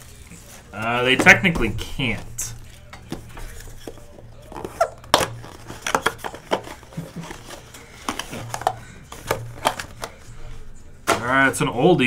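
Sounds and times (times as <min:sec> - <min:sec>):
card wrapper crinkling: 0:00.0 - 0:10.6.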